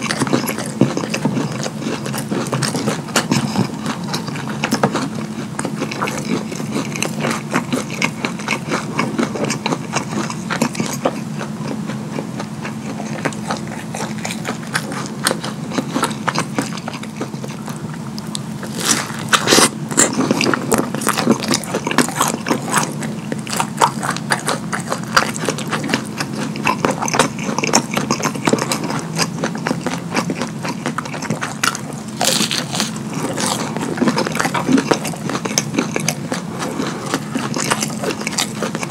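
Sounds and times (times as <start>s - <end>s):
wet chewing and lip-smacking: 0.0s - 38.9s.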